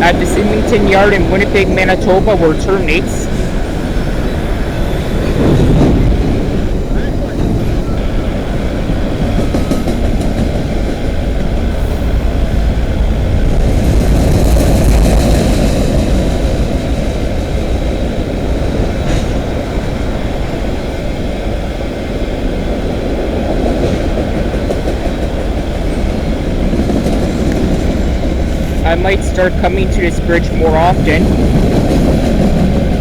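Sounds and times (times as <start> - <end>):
steel train wheels rumbling on rail: 0.0 - 33.0.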